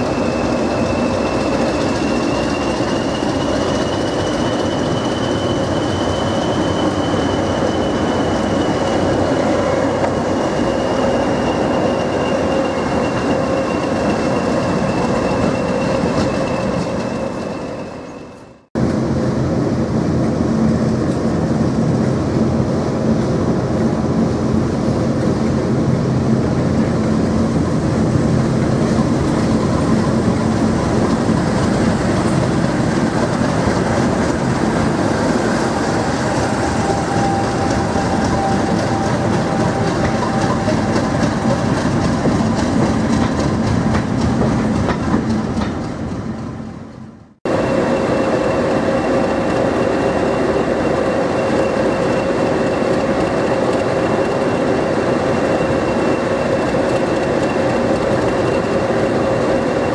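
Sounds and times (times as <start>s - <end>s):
diesel locomotive engine whine: 0.0s - 59.9s.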